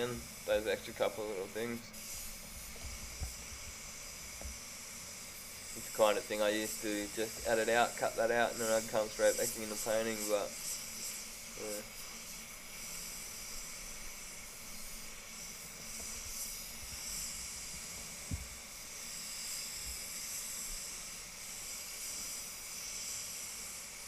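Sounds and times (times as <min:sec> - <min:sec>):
spray gun hissing: 0:00.0 - 0:24.0.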